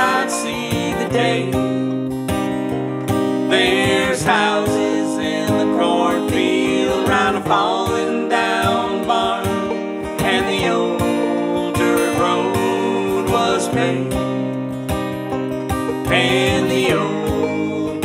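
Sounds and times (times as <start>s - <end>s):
man and woman singing: 0.0s - 1.8s, 3.5s - 14.2s, 16.0s - 18.0s
acoustic guitar: 0.0s - 18.0s
banjo: 0.0s - 18.0s.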